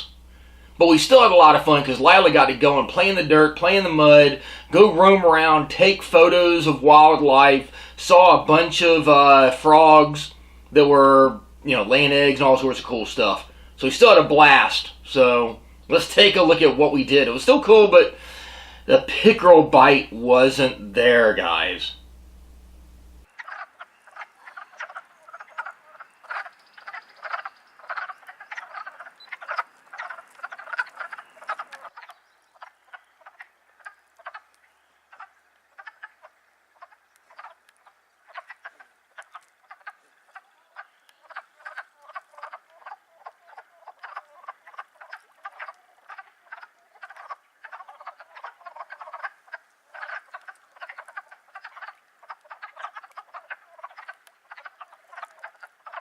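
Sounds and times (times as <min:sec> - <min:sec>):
chorus of frogs croaking: 0:00.0 - 0:22.3, 0:22.9 - 0:56.0.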